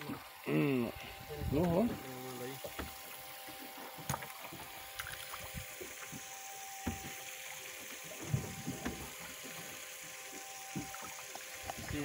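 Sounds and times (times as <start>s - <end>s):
faint steady hum: 0.0s - 12.0s
water sloshing against boat: 0.0s - 12.0s.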